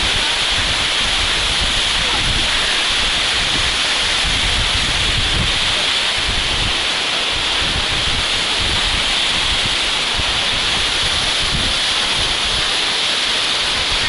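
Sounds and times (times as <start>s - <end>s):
waterfall rushing: 0.0s - 14.0s
wind buffeting microphone: 0.0s - 14.0s.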